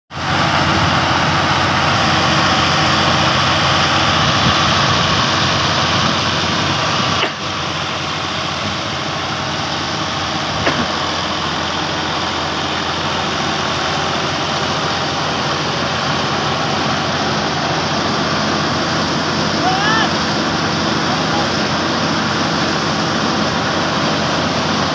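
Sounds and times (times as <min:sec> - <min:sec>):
tractor diesel engine running: 0:00.1 - 0:24.9
thresher rushing noise: 0:00.2 - 0:24.9.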